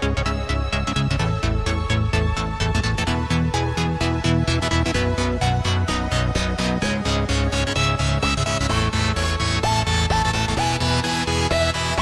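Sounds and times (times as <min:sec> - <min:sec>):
electronic music with sliding synth: 0:00.0 - 0:12.0.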